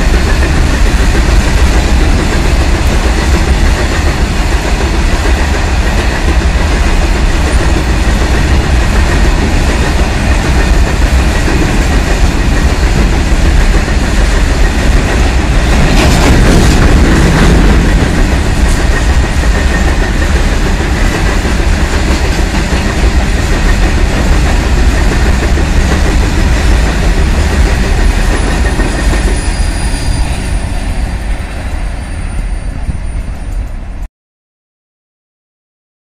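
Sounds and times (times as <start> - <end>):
train wheels clattering on rails: 0.0 - 34.1.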